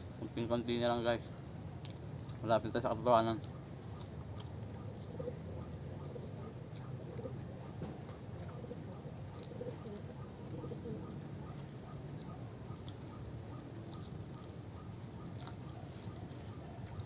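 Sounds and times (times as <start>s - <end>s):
low outdoor background: 0.0s - 17.0s
lower bird calls: 1.1s - 17.0s.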